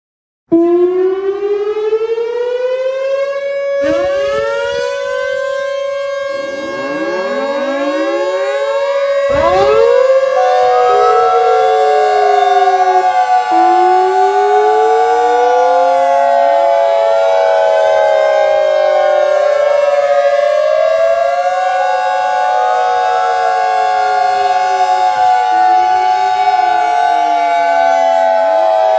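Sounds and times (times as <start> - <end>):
outdoor warning sirens: 0.5 - 28.9
siren wailing down and up: 0.5 - 28.9.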